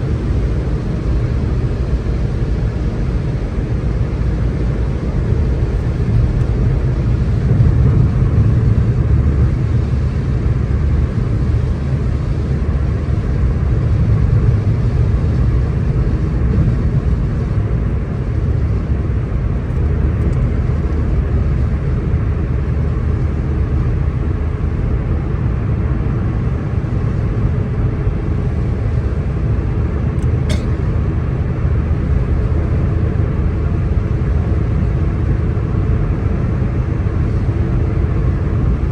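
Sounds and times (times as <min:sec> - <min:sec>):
tyres and engine rumbling on wet road: 0:00.0 - 0:38.9.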